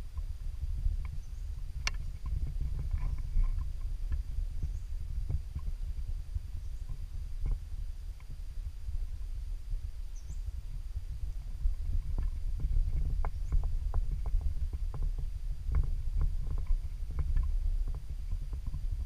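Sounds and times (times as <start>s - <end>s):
low wind rumble on microphone: 0.0s - 19.0s.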